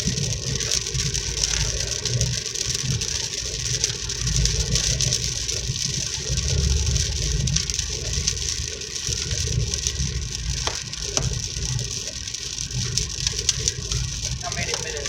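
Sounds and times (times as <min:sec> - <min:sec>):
car road and engine rumble: 0:00.0 - 0:15.0
rain pattering on car: 0:00.0 - 0:15.0.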